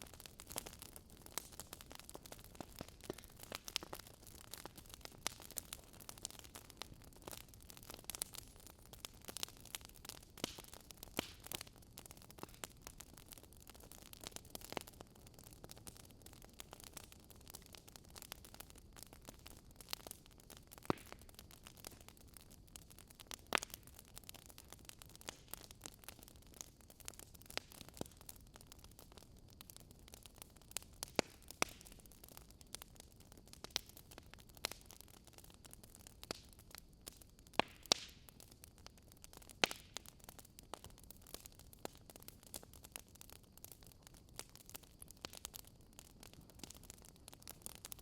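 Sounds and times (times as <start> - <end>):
faint steady hiss: 0.0 - 48.0
wood fire crackling and popping: 0.0 - 48.0.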